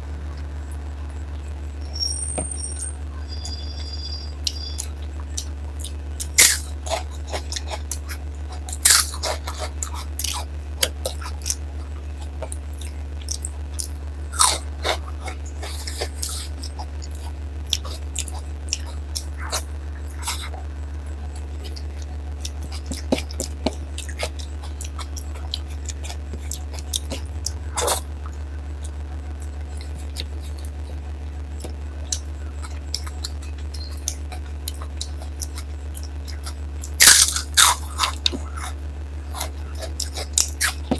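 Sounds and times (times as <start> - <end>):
steady low hum: 0.0 - 40.9
person chewing with crunches: 5.3 - 20.6, 21.3 - 40.9.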